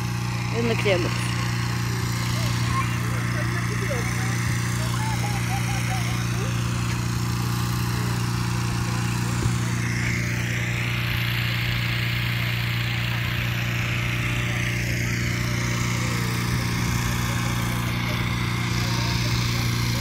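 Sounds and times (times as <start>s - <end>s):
small engine humming: 0.0s - 20.0s.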